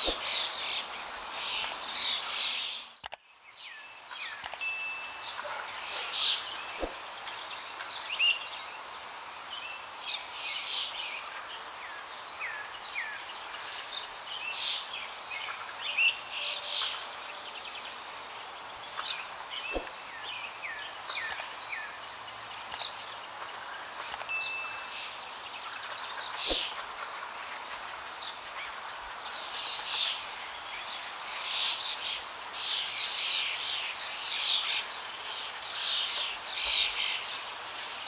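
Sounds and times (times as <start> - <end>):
small birds chirping: 0.0 - 38.0
steady outdoor hiss: 0.0 - 38.0.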